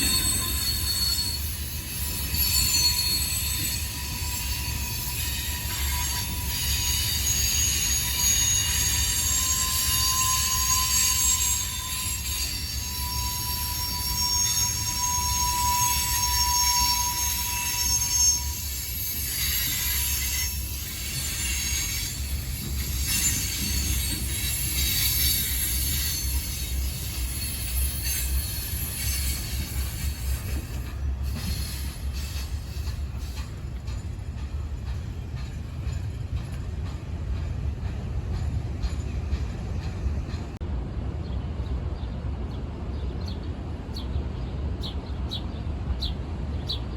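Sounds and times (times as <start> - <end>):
train wheels squealing on rails: 0.0 - 40.6
train rumble: 0.0 - 46.9.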